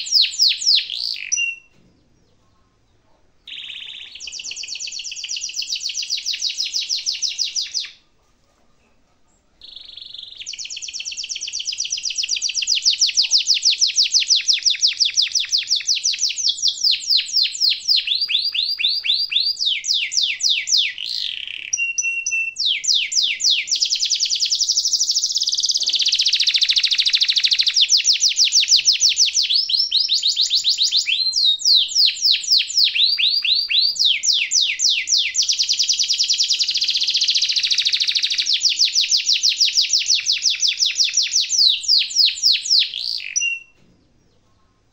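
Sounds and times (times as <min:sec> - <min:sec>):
canary singing trills: 0:00.0 - 0:08.0, 0:09.3 - 0:44.9.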